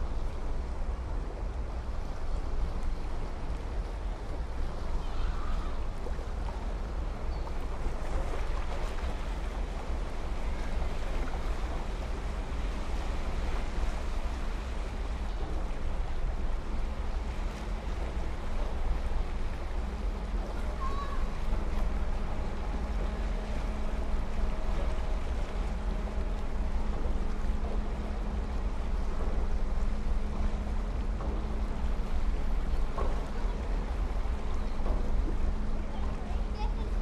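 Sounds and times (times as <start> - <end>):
water noise: 0.0 - 37.0
wind: 0.0 - 37.0.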